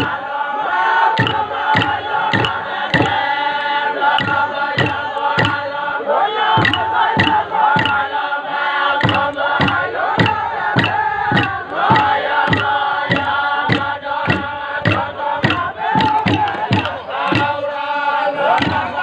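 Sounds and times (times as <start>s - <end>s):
steady struck beat: 0.0s - 0.3s, 1.2s - 5.8s, 6.6s - 8.2s, 9.0s - 17.8s, 18.5s - 19.0s
men chanting in unison: 0.0s - 19.0s.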